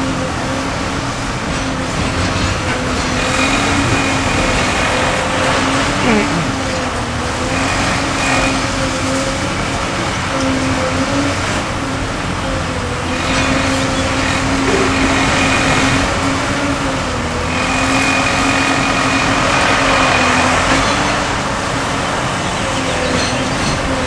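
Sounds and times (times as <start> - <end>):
excavator engine hum: 0.0 - 24.0
high hydraulic whine: 0.0 - 24.0.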